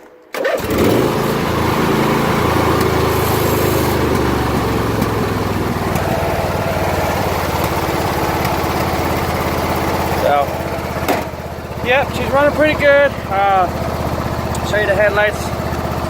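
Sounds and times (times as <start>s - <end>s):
riding mower engine running: 0.4s - 16.0s.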